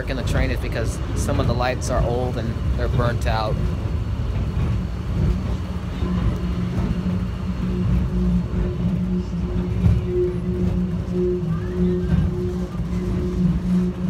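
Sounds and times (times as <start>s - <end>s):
subway train rumble and hum: 0.0s - 14.0s.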